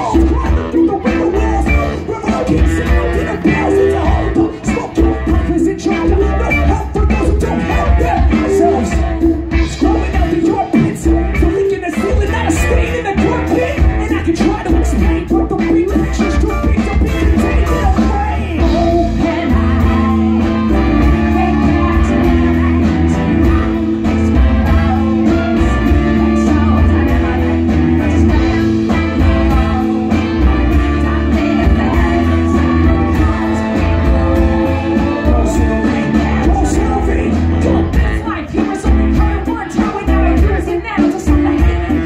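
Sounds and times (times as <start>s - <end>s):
brass band playing funk: 0.0s - 42.0s
drum kit: 0.0s - 42.0s
person singing into microphone: 0.0s - 42.0s.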